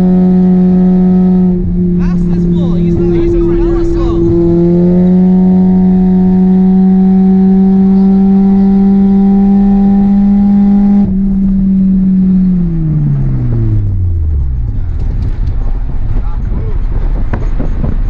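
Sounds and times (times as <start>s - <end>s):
car engine revving with rod knock: 0.0s - 18.0s.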